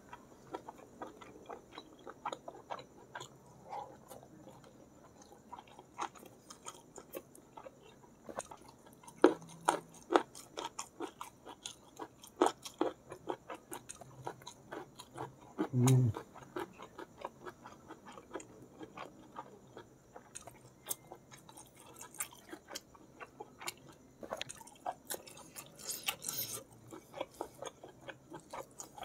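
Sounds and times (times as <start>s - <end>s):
close chewing with mouth clicks: 0.0s - 29.0s.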